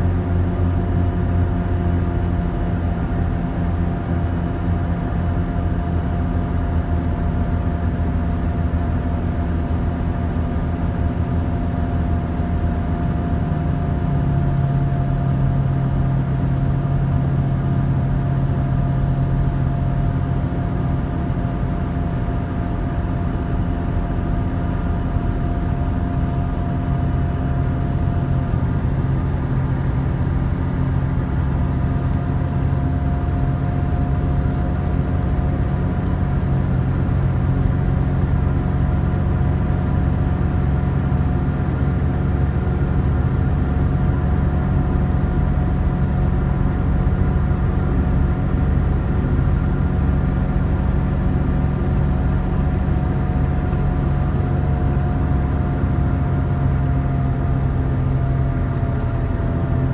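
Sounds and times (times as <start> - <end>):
car engine hum: 0.0 - 59.9
tyre roar on road: 0.0 - 59.9.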